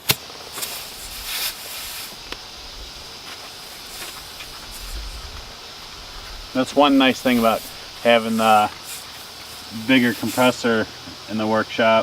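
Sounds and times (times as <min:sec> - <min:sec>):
compressed air hissing into tire: 0:00.0 - 0:11.4.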